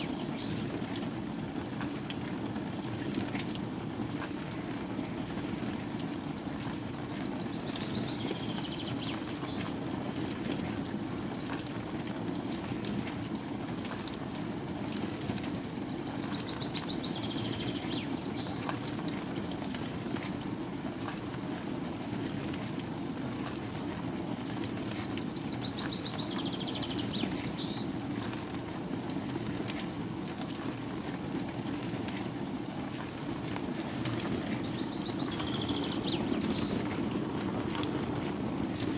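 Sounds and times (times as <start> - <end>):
water sloshing in washing machine: 0.0 - 38.9.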